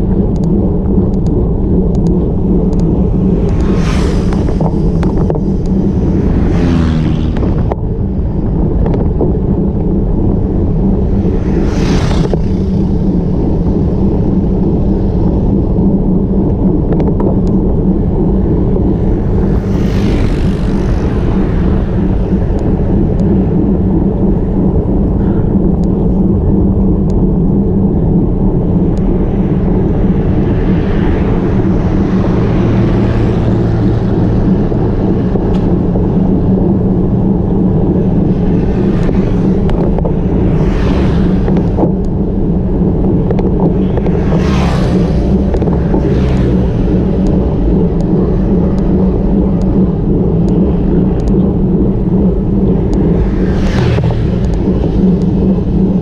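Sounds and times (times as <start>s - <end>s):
road rumble: 0.0s - 56.0s
wind: 0.0s - 56.0s.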